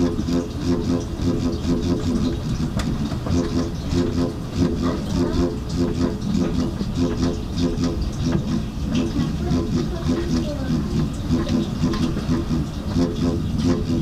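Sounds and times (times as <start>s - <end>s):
shock absorber groaning: 0.0s - 14.0s.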